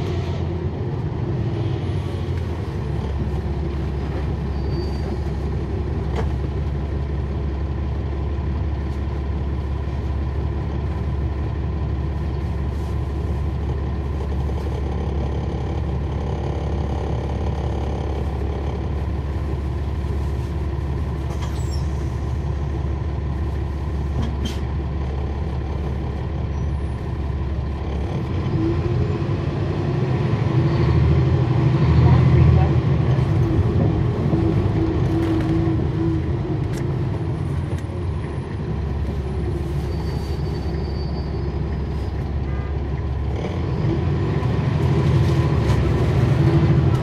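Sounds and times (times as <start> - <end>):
bus diesel engine humming: 0.0 - 47.0.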